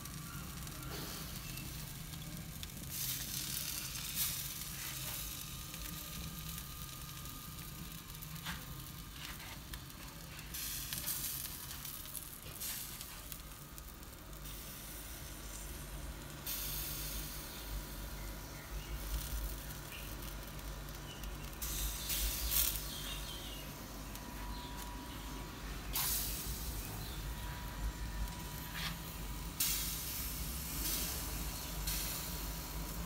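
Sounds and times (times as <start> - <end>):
fat sizzling and hissing: 0.0 - 33.0
sharp crackles: 0.0 - 33.0.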